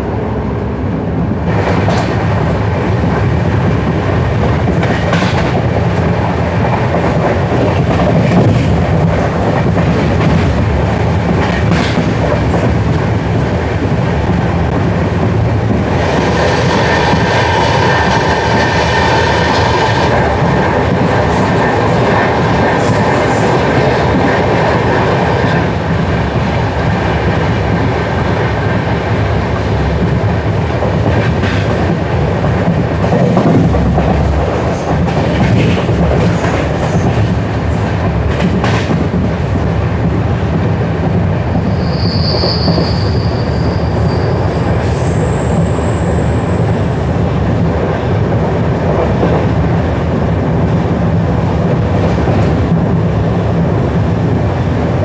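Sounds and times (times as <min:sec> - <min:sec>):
train coaches rumbling: 0:00.0 - 0:55.0.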